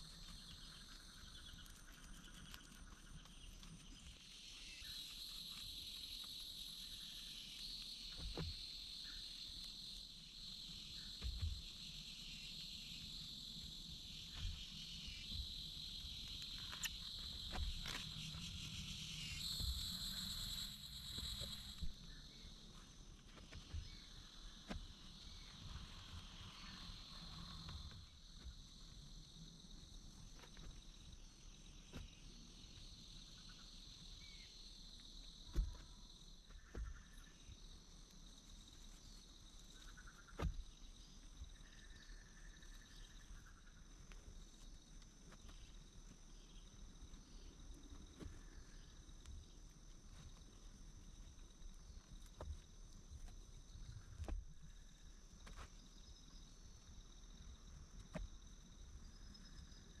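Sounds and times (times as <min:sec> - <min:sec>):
insects droning: 0:00.0 - 1:00.0.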